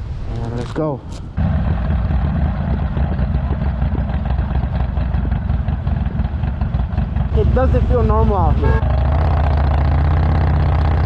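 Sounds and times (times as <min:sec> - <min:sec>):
motorcycle engine running: 0:01.4 - 0:11.0.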